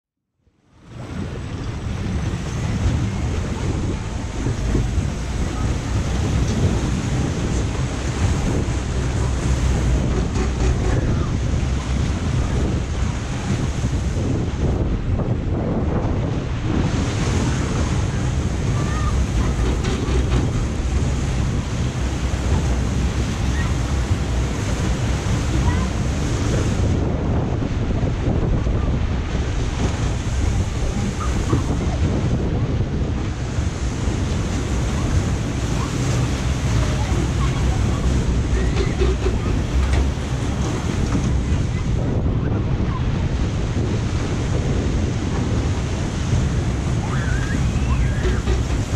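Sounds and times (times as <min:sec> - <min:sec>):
wind buffeting microphone: 0:00.7 - 0:48.9
water rushing and spraying: 0:00.8 - 0:48.9.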